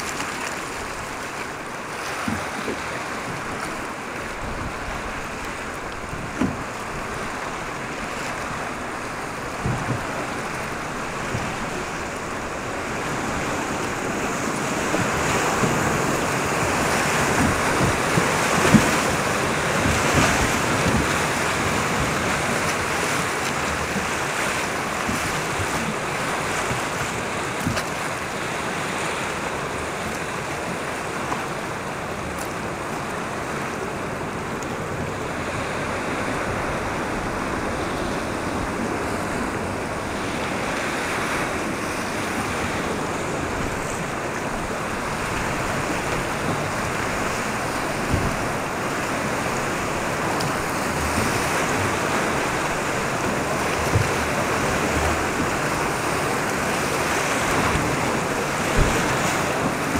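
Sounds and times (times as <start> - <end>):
whitewater rushing and splashing: 0.0 - 59.9.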